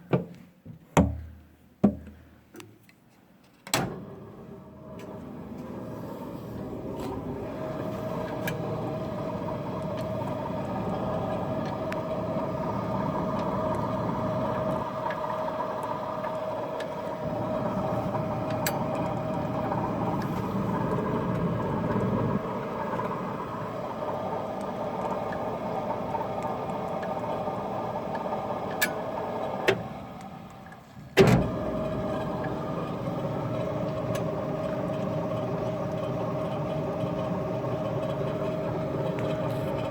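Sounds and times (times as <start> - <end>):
washing machine humming: 3.7 - 39.9.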